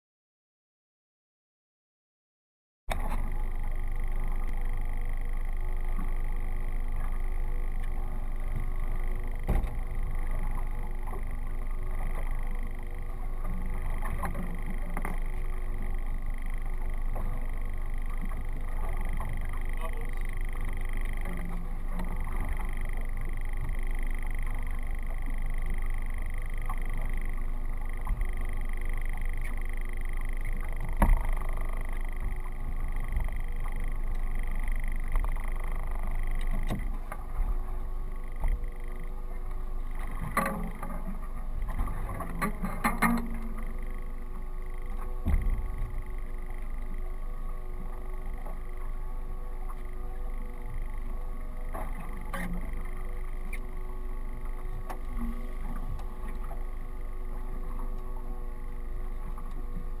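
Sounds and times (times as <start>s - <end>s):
boat engine rumble and hiss: 3.0s - 60.0s.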